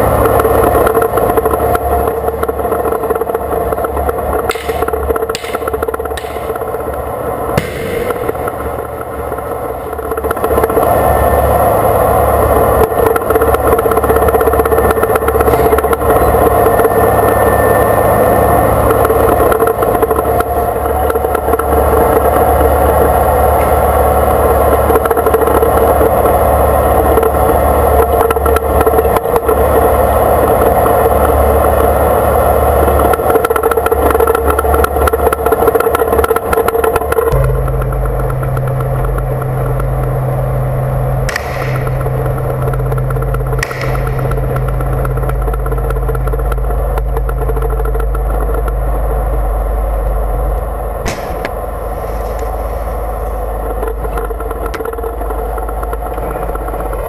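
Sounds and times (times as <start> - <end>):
tank engine running: 0.0 - 57.0.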